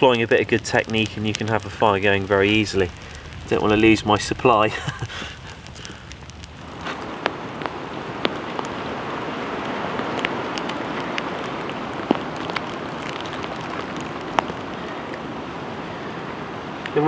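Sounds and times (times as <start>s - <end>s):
sharp raindrop taps: 0.0s - 15.5s
steady rain hiss: 0.0s - 17.0s.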